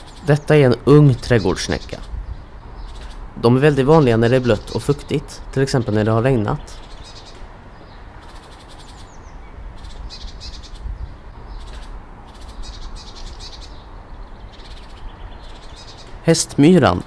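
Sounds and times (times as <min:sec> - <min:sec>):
steady low rumble: 0:00.0 - 0:08.3, 0:09.0 - 0:16.2
birds chirping and trilling: 0:00.0 - 0:17.0.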